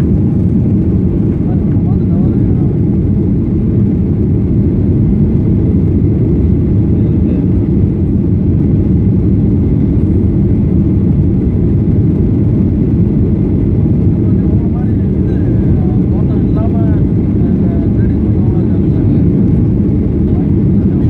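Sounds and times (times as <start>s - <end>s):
jet engines droning: 0.0s - 21.0s.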